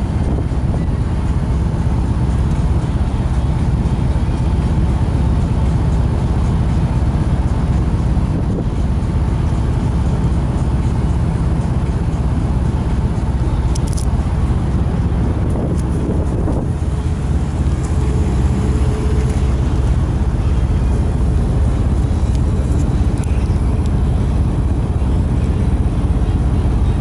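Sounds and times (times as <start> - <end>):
boat diesel engine rumbling: 0.0 - 27.0.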